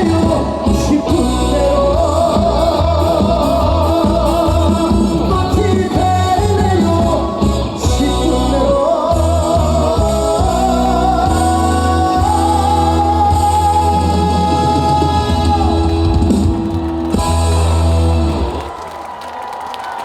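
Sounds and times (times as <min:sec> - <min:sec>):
man singing with vibrato: 0:00.0 - 0:16.6
live trot band playing: 0:00.0 - 0:18.8.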